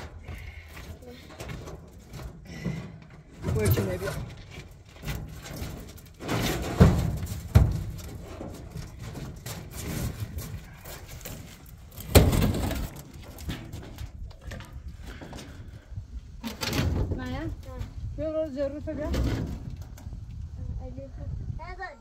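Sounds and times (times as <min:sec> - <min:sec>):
concrete blocks knocking and scraping: 0:00.0 - 0:20.4.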